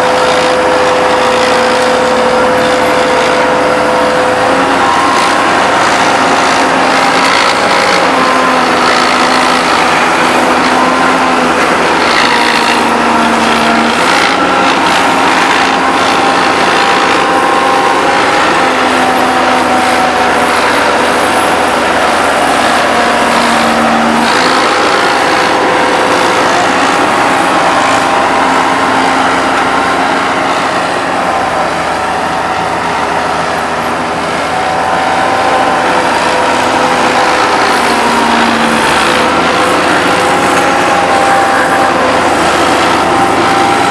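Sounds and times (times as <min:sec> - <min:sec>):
heavy diesel engines running: 0:00.0 - 0:43.9.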